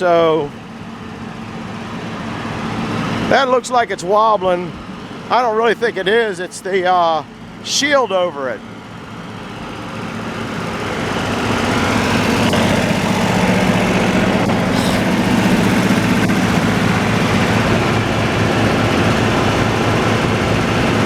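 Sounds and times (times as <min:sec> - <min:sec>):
sawmill machinery running: 0:00.0 - 0:21.0.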